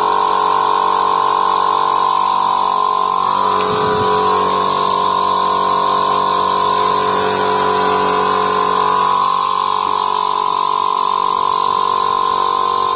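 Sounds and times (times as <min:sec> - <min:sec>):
steady mechanical hum: 0:00.0 - 0:12.9.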